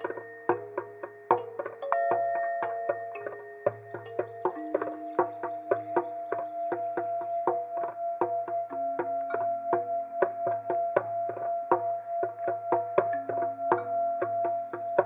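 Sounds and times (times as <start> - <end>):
quick percussion beat: 0.0 - 15.0.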